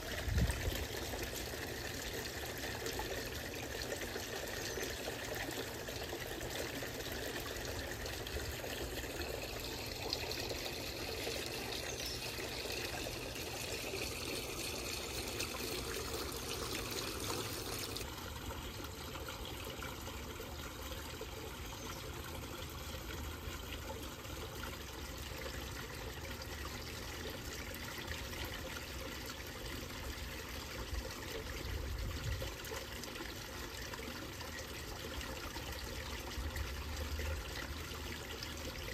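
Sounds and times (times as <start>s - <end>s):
water pouring into pond: 0.0s - 38.9s.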